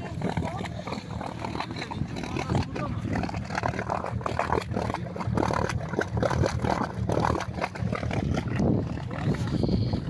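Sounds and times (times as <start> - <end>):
mud churning and splattering: 0.0 - 10.0.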